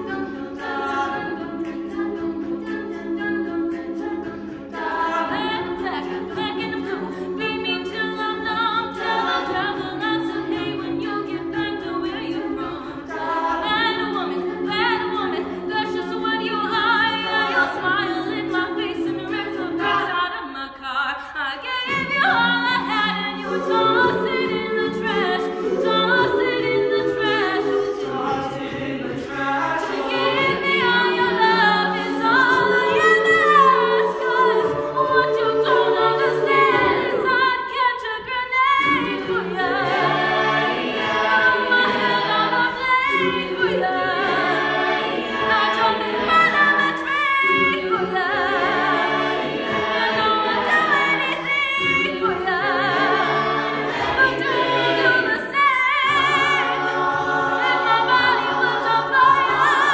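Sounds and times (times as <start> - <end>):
a cappella choir singing: 0.0 - 59.9.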